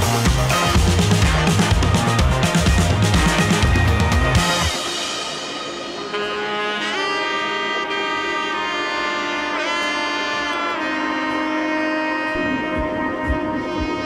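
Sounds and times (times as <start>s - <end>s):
wind instrument melody: 0.0s - 14.0s.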